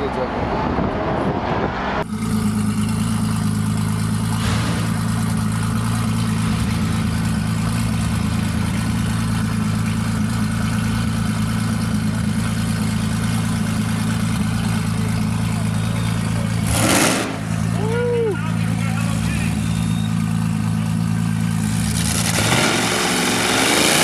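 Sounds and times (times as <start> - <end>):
engine idling: 2.0 - 24.0.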